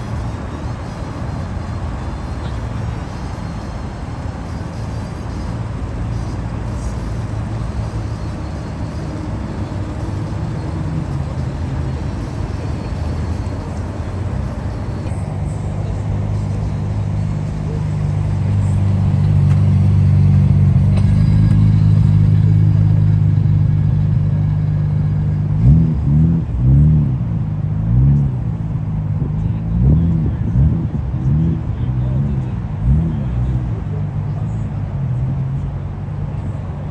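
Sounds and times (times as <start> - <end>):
car engine running: 0.0 - 36.9
engine throttle blips: 0.0 - 36.9.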